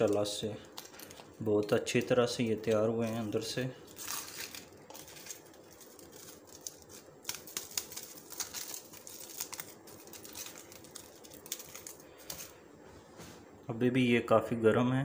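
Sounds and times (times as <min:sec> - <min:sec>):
aluminium foil crinkling: 0:00.0 - 0:12.6.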